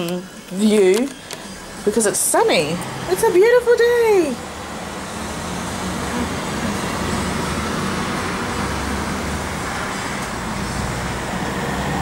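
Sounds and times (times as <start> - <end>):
city traffic rumble and hiss: 0.0 - 12.0.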